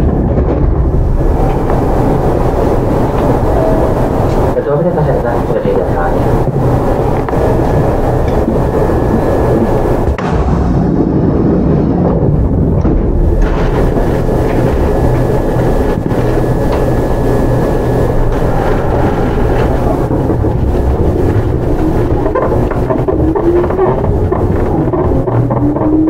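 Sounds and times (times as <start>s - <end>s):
faint steady whine: 0.0s - 26.0s
train wheels rumbling on rail: 0.0s - 26.0s.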